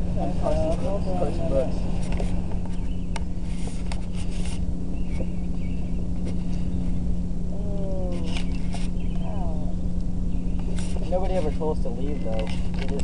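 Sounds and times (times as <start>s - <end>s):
rumbling outdoor background noise: 0.0s - 13.0s
steady low hum: 0.0s - 13.0s.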